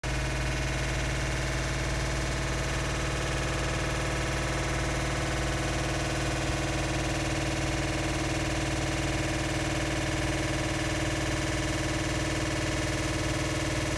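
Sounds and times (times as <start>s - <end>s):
washing machine droning: 0.0s - 13.9s.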